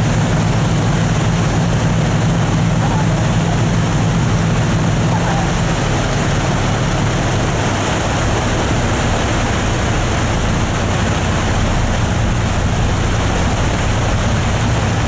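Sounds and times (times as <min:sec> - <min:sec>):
boat engine humming: 0:00.0 - 0:15.0
water rushing: 0:00.0 - 0:15.0.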